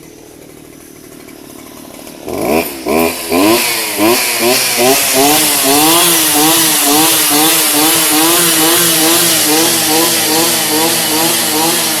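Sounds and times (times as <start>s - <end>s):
string trimmer engine running: 0.0s - 12.0s.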